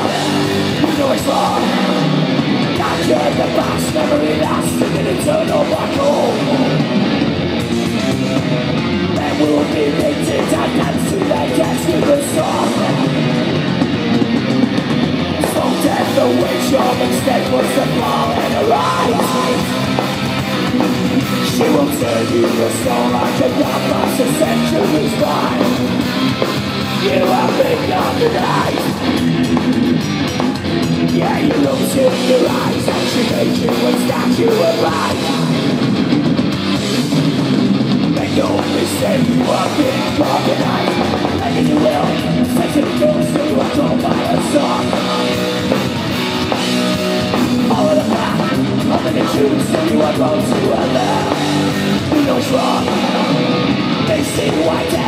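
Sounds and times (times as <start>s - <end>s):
bass guitar: 0.0s - 55.0s
distorted electric guitar: 0.0s - 55.0s
drum kit: 0.0s - 55.0s.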